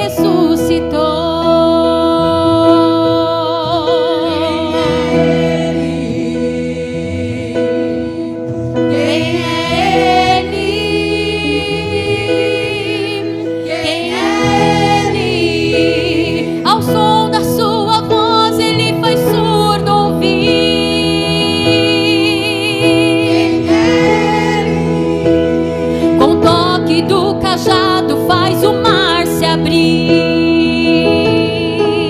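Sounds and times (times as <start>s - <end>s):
women's vocal group singing: 0.0s - 32.0s
sustained instrumental chords: 2.2s - 32.0s.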